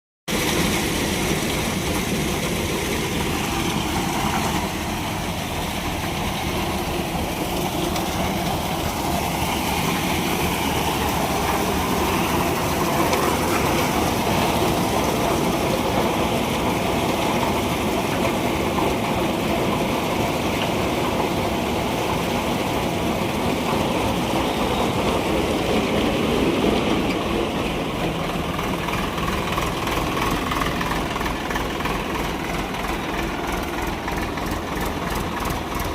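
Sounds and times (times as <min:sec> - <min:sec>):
tractor engine running: 0:00.3 - 0:35.9.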